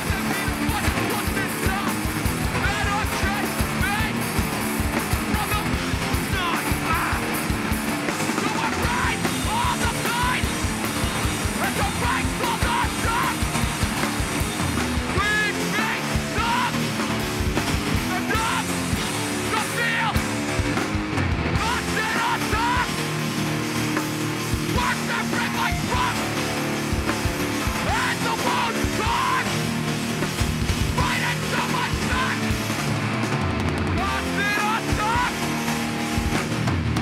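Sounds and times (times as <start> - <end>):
distorted electric guitars: 0.0 - 37.0
fast driving drums: 0.0 - 37.0.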